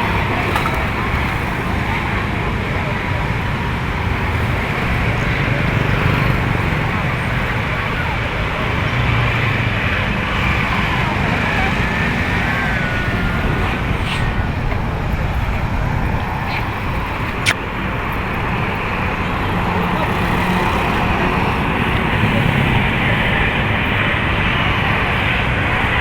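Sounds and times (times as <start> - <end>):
street traffic passing: 0.0 - 26.0.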